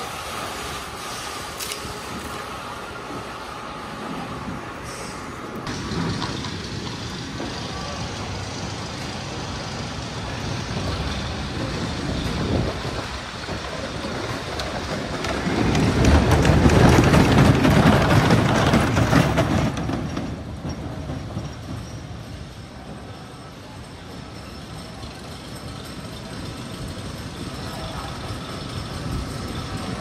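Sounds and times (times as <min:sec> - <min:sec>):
roller coaster rumbling and rattling: 0:00.0 - 0:30.0.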